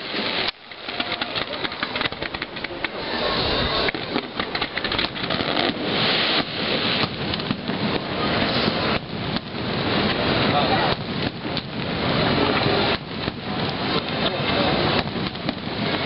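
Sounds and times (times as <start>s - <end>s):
fireworks bangs and crackles: 0.1s - 16.0s.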